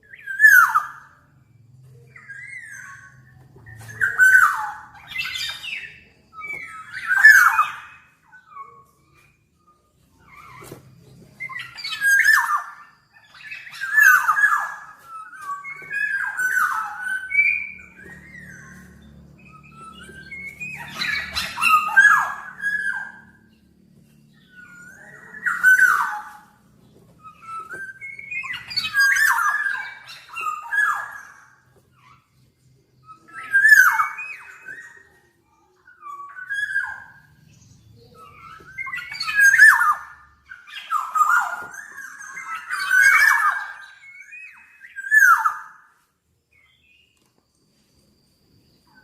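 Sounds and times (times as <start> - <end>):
soft bird calls: 0.0 - 49.0.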